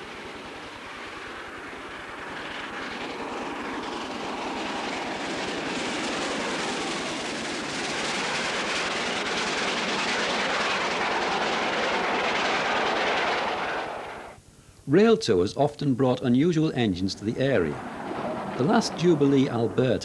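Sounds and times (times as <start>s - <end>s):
steam locomotive passing: 0.0s - 14.4s, 16.1s - 20.0s.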